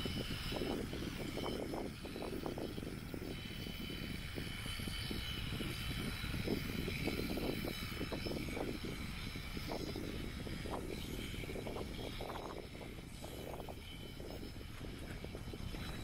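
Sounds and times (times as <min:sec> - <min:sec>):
electric shears whining: 0:00.0 - 0:16.0.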